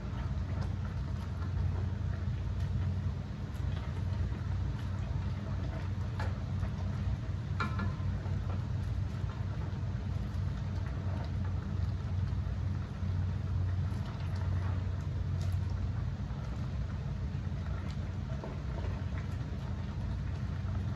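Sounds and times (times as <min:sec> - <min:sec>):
steady low hum: 0:00.0 - 0:20.9
water boiling and bubbling: 0:00.0 - 0:20.9.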